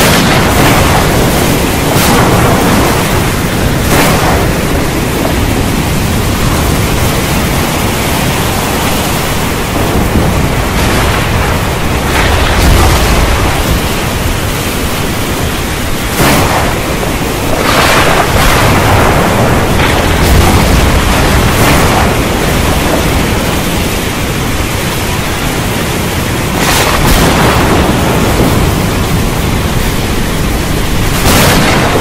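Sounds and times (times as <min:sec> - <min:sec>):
heavy rain hissing: 0:00.0 - 0:32.0
thunder claps and rumbling: 0:00.0 - 0:32.0.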